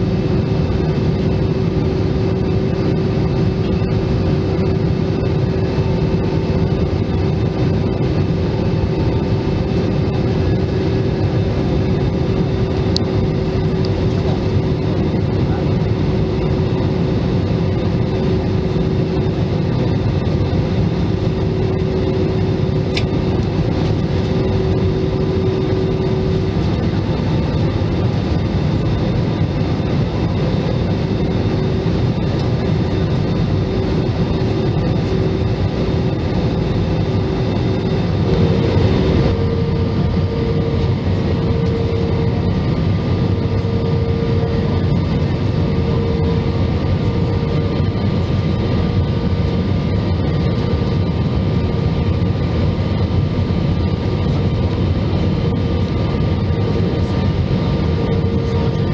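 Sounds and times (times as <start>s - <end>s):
air rush and jet engine drone: 0.0s - 58.9s
humming tone: 0.0s - 58.9s.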